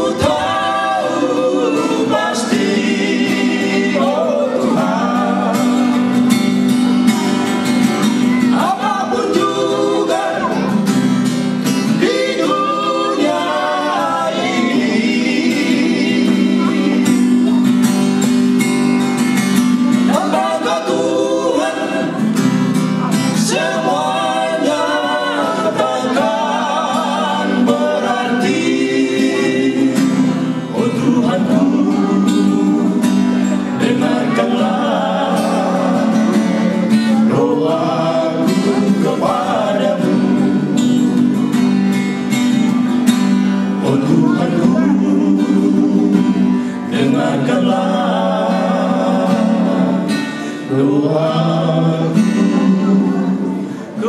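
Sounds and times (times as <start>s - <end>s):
men singing: 0.0s - 54.0s
strummed acoustic guitars: 0.0s - 54.0s.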